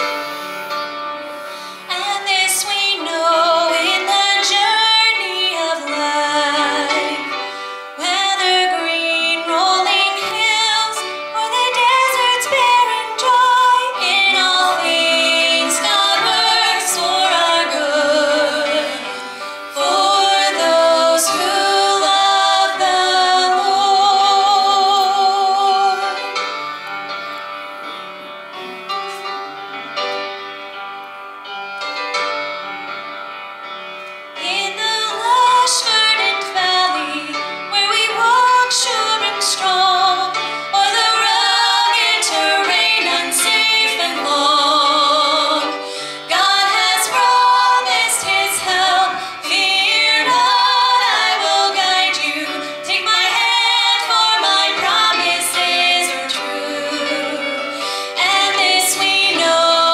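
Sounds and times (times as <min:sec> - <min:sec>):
instrumental accompaniment: 0:00.0 - 0:59.9
women singing gospel: 0:01.9 - 0:07.4, 0:08.0 - 0:26.4, 0:34.4 - 0:59.9.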